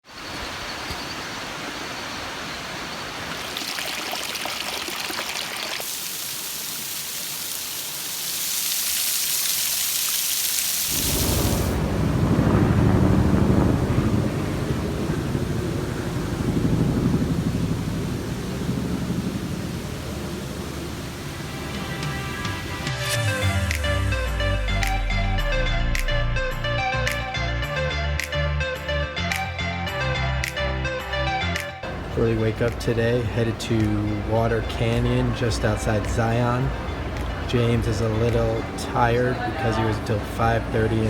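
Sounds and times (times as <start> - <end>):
rushing water: 0.0 - 23.9, 31.8 - 41.0.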